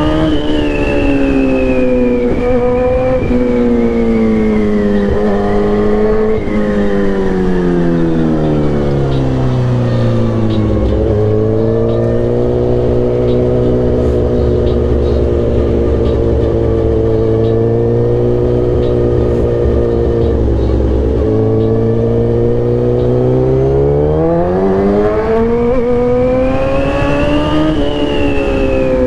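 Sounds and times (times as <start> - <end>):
motorcycle engine: 0.0 - 29.0.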